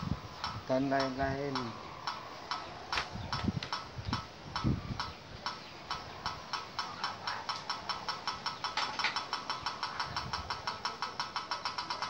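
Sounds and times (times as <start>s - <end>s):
diesel engine ticking knock: 0.0s - 12.0s.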